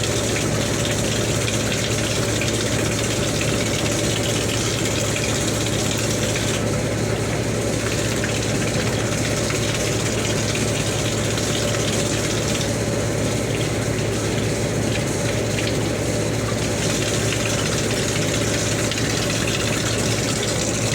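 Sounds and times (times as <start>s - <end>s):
water running from tap: 0.0s - 20.9s.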